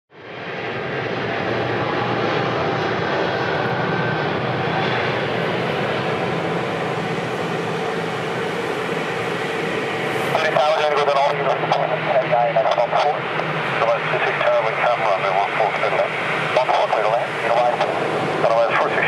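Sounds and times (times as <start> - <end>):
jet engines running: 0.1 - 19.0.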